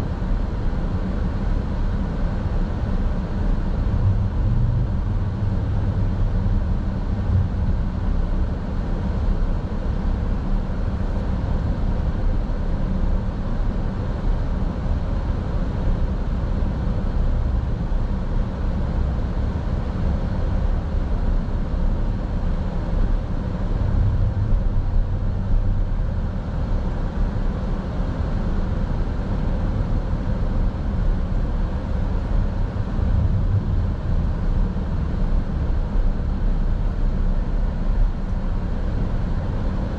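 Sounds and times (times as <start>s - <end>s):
car road noise from inside cabin: 0.0s - 39.9s.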